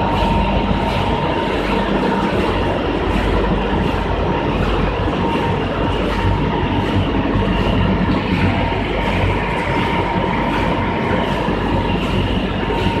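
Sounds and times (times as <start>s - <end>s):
printing machine rumbling: 0.0s - 13.0s.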